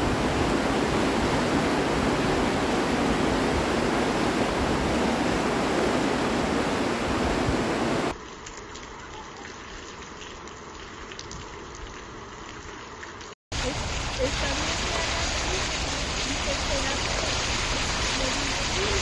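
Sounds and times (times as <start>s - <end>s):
floodwater rushing: 0.0s - 11.8s, 13.5s - 19.0s.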